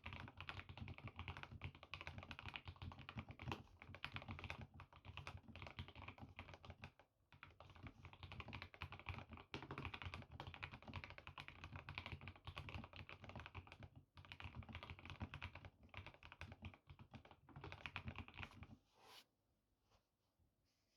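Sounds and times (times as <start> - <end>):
mechanical keyboard typing: 0.0 - 6.8, 7.6 - 18.5.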